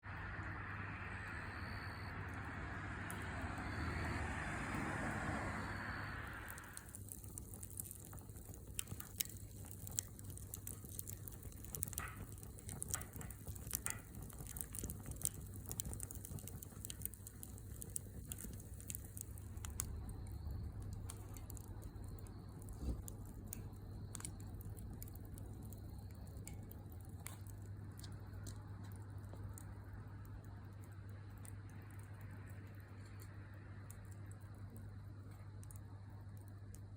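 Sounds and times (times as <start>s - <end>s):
steady low hum: 0.0s - 36.9s
wood fire crackling: 0.1s - 36.9s.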